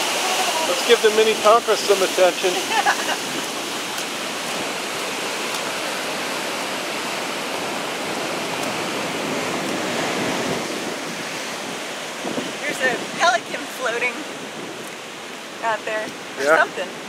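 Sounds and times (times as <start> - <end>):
storm surf crashing under pier: 0.0 - 17.0.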